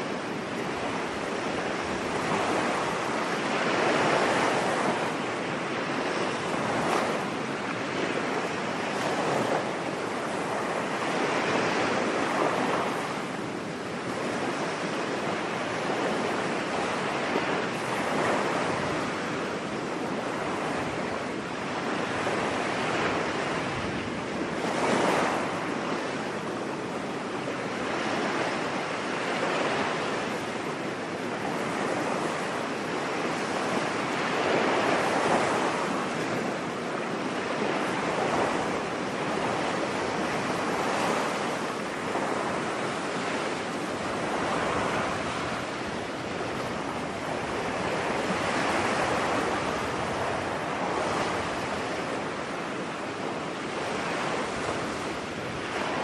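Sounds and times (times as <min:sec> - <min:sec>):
ocean waves washing onto beach: 0:00.0 - 0:56.0.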